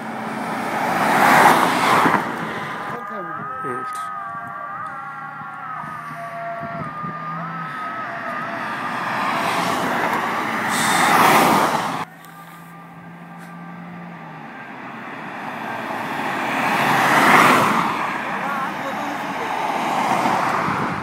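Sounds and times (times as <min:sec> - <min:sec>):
cars passing at speed: 0:00.0 - 0:21.0.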